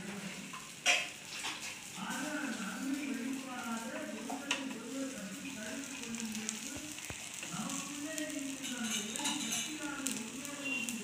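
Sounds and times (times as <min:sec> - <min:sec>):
batter sizzling on hot pan: 0:00.0 - 0:11.0.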